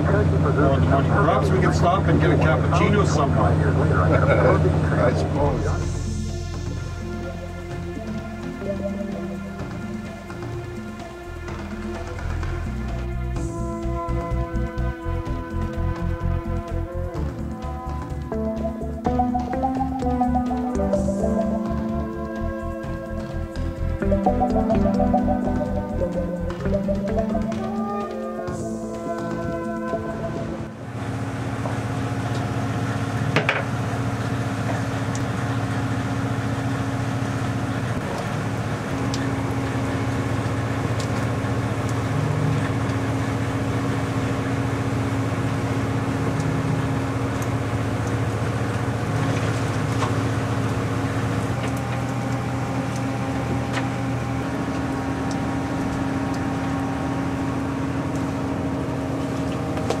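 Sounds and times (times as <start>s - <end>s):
boat engine humming: 0.0s - 60.0s.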